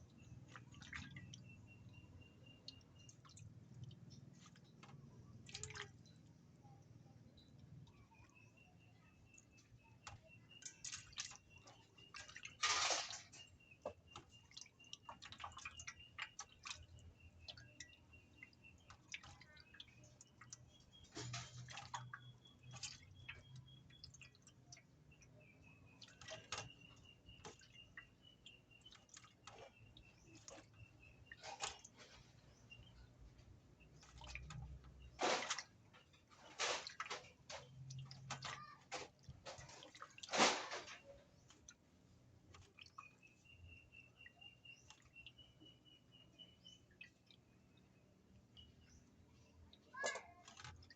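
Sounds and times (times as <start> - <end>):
hands washing meat in water: 0.0 - 6.6, 7.4 - 50.9.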